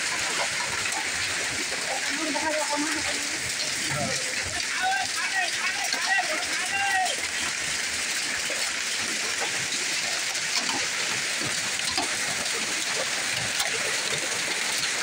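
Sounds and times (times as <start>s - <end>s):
heavy rain streaming off roof: 0.0s - 15.0s
water drips splatting: 0.0s - 15.0s.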